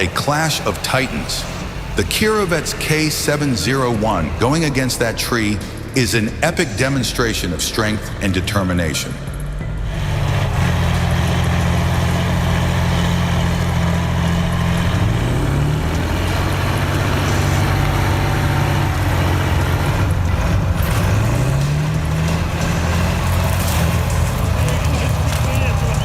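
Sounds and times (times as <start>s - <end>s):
tractor diesel engine under load: 0.0s - 8.6s, 9.3s - 26.0s.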